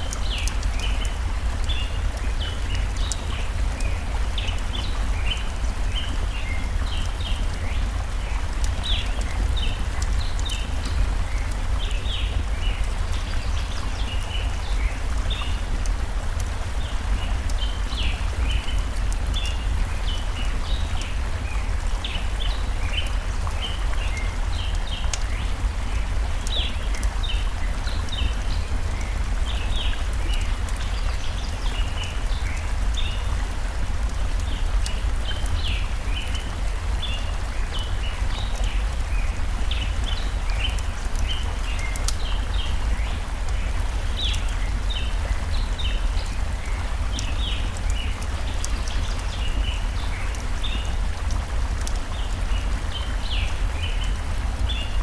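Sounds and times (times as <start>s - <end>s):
stream rushing: 0.0s - 55.0s
wood fire crackling: 0.0s - 55.0s.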